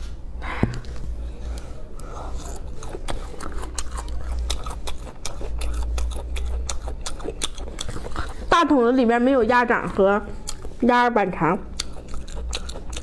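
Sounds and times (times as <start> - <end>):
chewing chewy meat: 1.5 - 8.9, 9.7 - 13.0.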